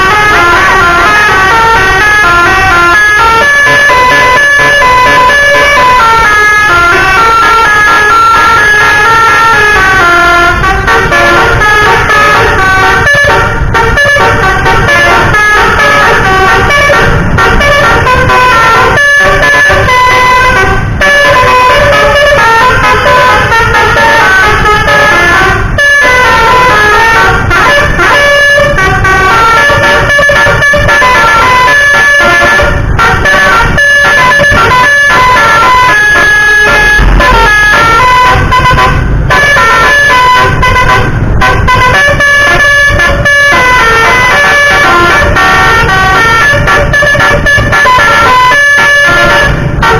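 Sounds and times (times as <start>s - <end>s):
multi-note air horn melody: 0.0s - 49.9s.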